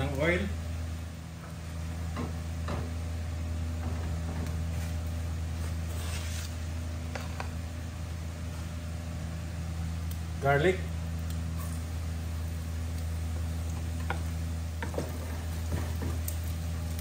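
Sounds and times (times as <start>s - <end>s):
steady low hum: 0.0s - 17.0s
oil crackling in a wok: 0.7s - 17.0s.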